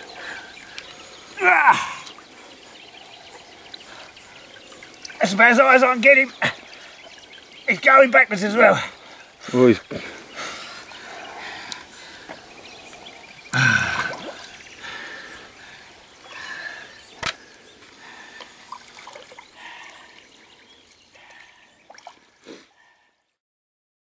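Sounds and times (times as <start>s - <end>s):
river water sloshing and splashing: 0.0s - 7.6s, 8.9s - 22.4s.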